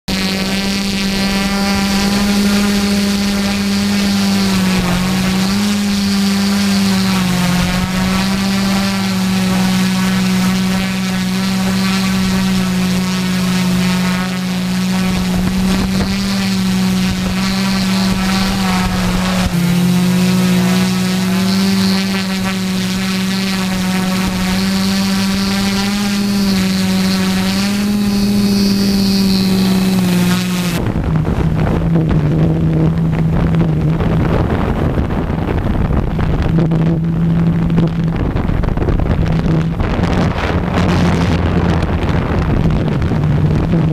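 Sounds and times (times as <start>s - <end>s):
multicopter motors humming: 0.0s - 43.9s.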